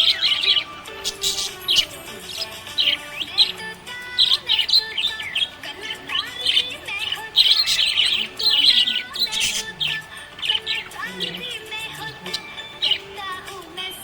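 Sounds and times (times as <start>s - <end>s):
budgie chirping: 0.0s - 14.0s.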